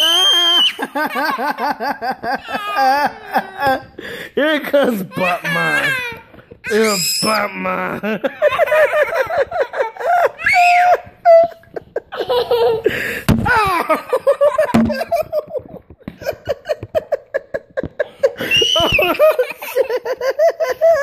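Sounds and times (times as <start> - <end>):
children laughing and giggling: 0.0 - 21.0.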